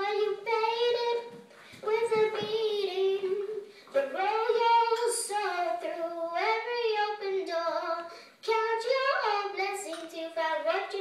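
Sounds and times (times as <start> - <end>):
girl singing unaccompanied: 0.0 - 11.0.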